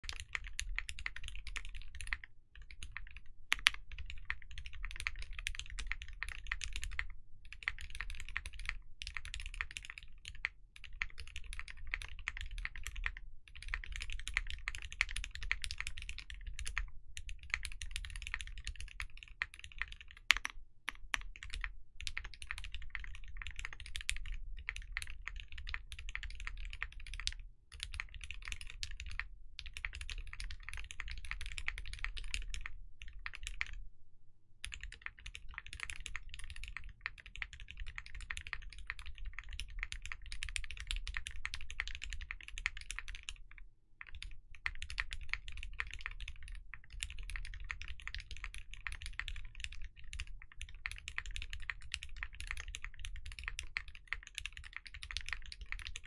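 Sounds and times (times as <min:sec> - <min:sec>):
fast typing on mechanical keyboard: 0:00.0 - 0:33.8, 0:34.6 - 0:56.0.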